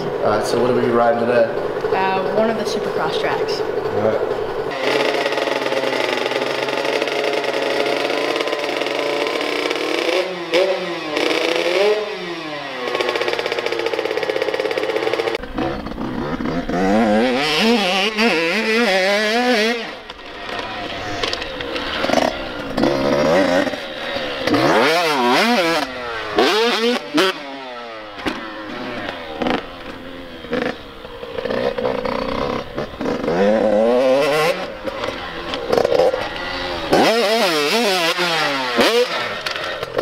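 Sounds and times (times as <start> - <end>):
two-stroke dirt bike engine revving: 0.0 - 40.0.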